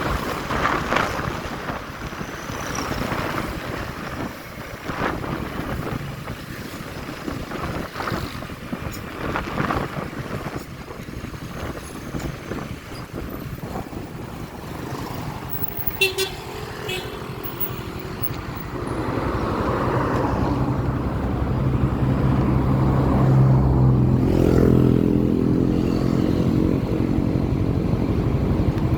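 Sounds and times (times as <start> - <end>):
road noise: 0.0 - 28.9
wind rushing over microphone: 0.0 - 28.9.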